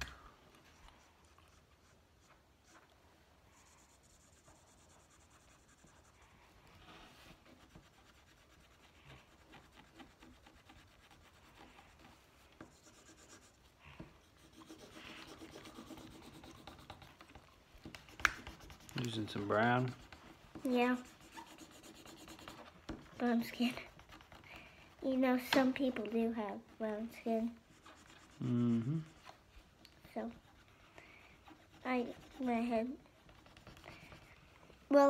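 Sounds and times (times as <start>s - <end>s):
markers scratching on paper: 0.6s - 35.0s.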